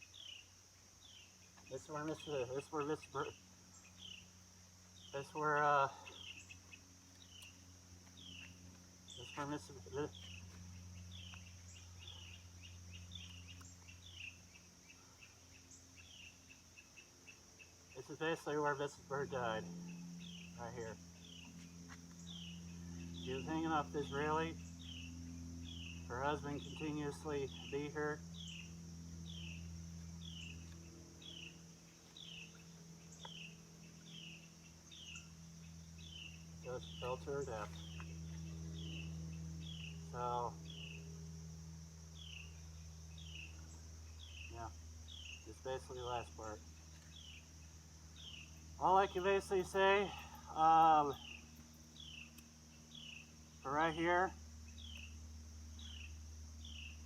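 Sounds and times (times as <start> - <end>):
bird chirping: 0.0 - 57.0
high insect drone: 0.0 - 57.0
low hum: 0.0 - 57.0.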